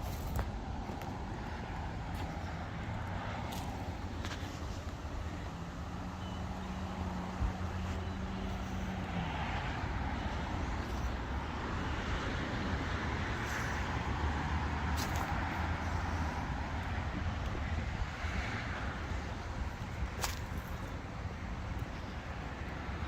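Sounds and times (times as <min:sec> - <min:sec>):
cars passing: 0:00.0 - 0:23.0.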